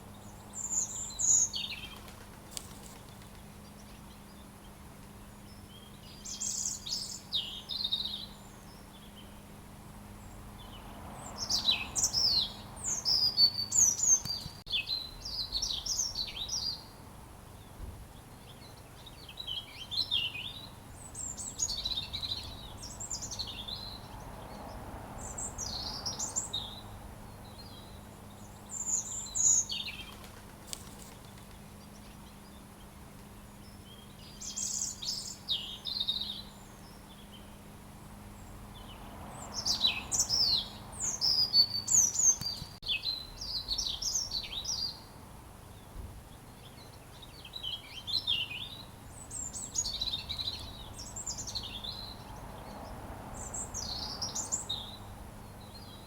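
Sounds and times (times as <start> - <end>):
robin singing: 0.0 - 17.0, 17.6 - 56.0.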